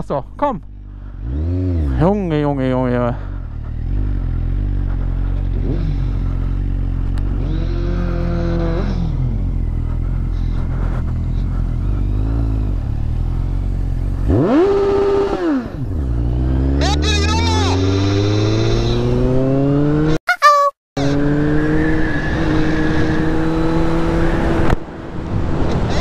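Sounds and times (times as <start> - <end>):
motorcycle engine revving: 0.6 - 20.2, 21.0 - 26.0.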